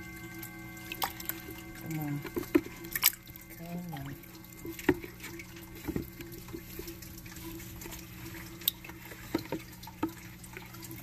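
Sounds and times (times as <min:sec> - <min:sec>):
steady low hum: 0:00.0 - 0:11.0
water splashing and trickling: 0:00.0 - 0:11.0.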